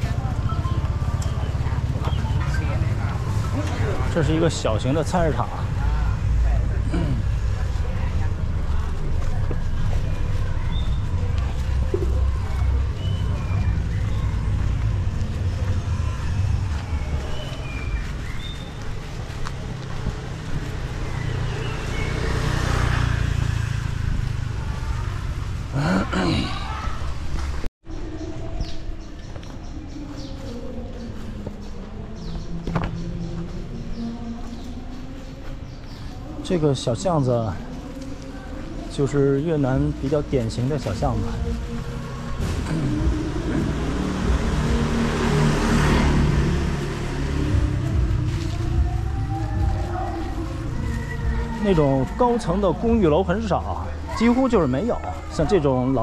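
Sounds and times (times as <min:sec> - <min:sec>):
vehicle passing: 0:00.0 - 0:27.6, 0:30.0 - 0:56.0.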